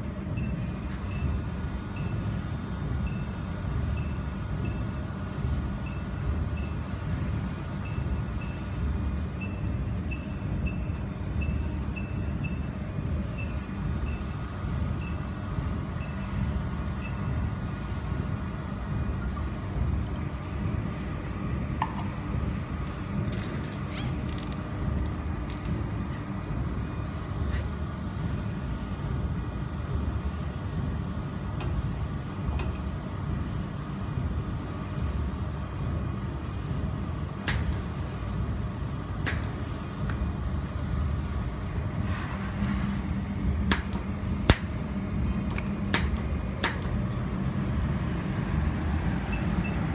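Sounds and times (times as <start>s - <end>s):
laser welding machine humming: 0.0s - 49.9s.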